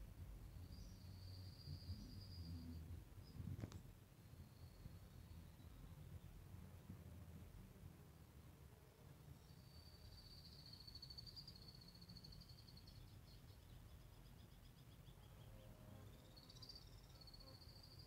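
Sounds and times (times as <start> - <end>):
faint high birdsong: 0.0 - 6.5, 9.1 - 18.0.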